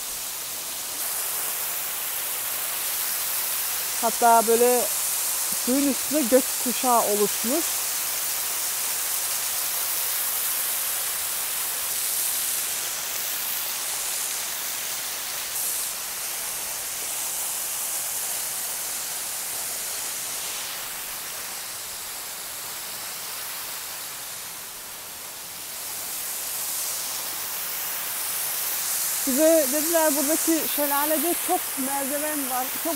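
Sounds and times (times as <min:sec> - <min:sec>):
waterfall rushing onto rocks: 0:00.0 - 0:32.9.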